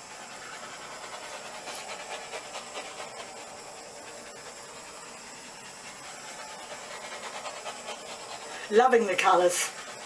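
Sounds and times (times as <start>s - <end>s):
torch flame hissing: 0.0s - 10.0s.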